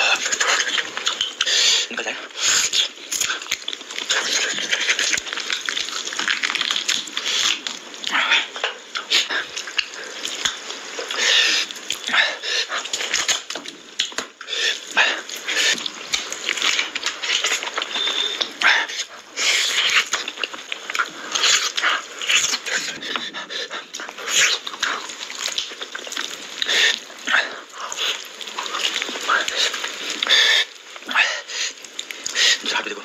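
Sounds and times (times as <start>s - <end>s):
man chewing: 0.0s - 32.7s
lip-smacking and wet mouth noises: 0.0s - 33.0s.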